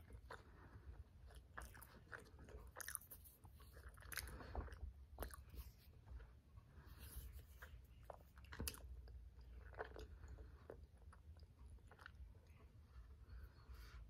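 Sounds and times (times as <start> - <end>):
chewing soft food: 0.0 - 13.7.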